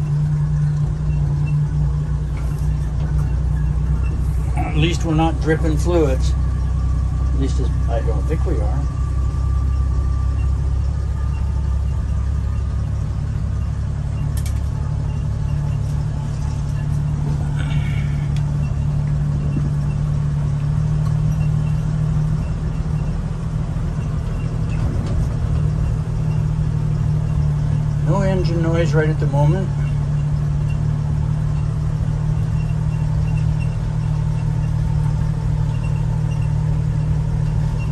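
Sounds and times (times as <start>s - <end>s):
vehicle engine drone from inside: 0.0s - 37.9s.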